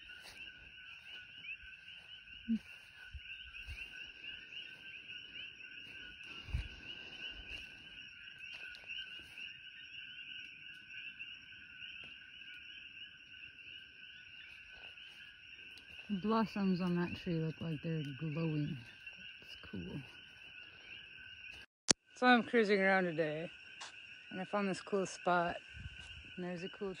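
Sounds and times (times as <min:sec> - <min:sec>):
frogs chirping: 0:00.0 - 0:27.0.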